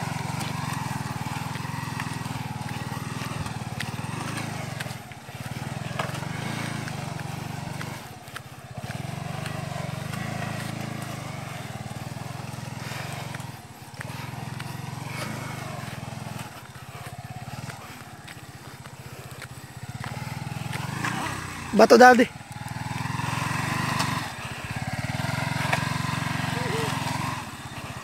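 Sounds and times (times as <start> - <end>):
small motorcycle engine: 0.0 - 28.0.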